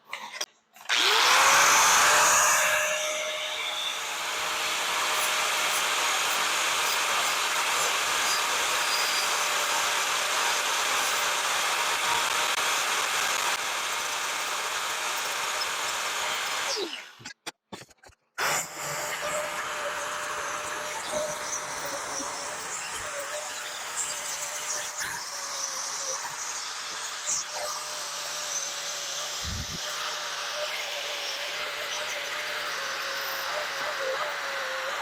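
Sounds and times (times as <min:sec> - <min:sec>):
angle grinder grinding metal: 0:00.1 - 0:17.4, 0:18.4 - 0:35.0.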